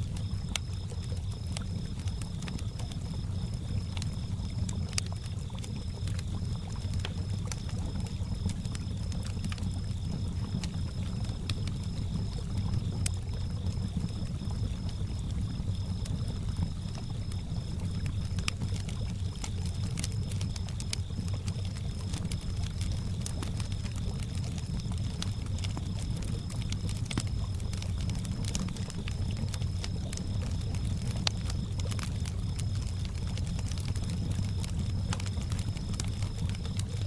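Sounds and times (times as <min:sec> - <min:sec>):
campfire crackling: 0:00.0 - 0:37.0
crickets chirping: 0:00.0 - 0:37.0.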